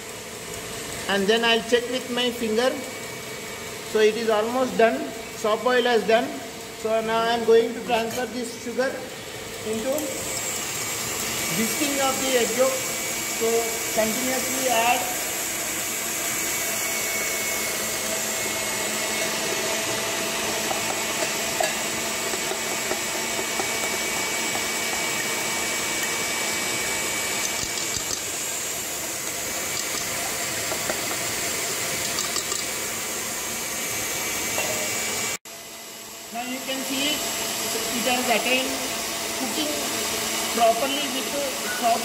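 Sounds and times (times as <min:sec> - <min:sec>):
stand mixer whisking: 0:00.0 - 0:42.0.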